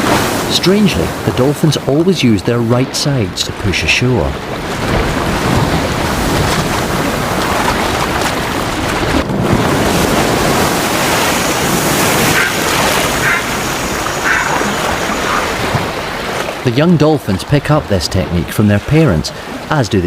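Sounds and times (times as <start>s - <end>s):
surf washing on shoreline: 0.0s - 20.0s.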